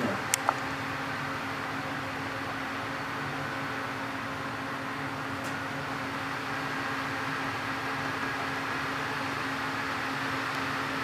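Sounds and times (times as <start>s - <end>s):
cooling fans whirring: 0.0s - 11.0s.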